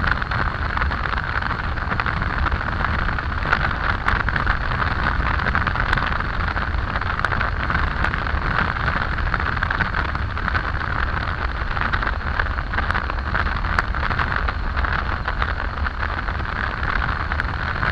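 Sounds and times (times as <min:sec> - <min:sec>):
motorcycle road noise: 0:00.0 - 0:17.9
wind rush: 0:00.0 - 0:17.9.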